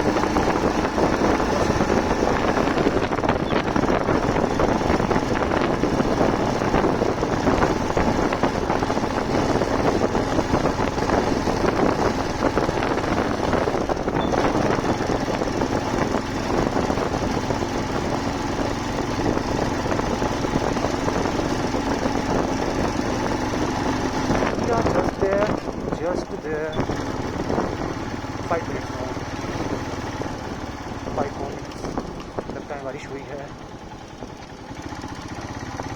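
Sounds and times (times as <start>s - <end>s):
wind rushing: 0.0s - 32.8s
motorcycle engine running: 0.0s - 35.9s
road noise: 0.0s - 35.9s.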